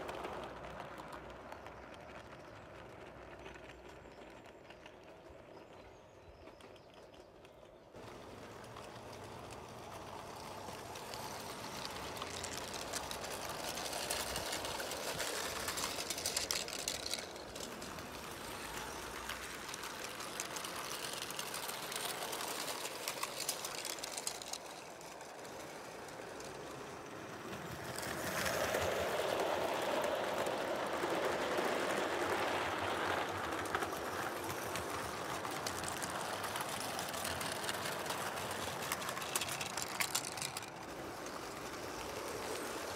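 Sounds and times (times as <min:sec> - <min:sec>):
model train wheels clattering on rails: 0:00.0 - 0:42.9.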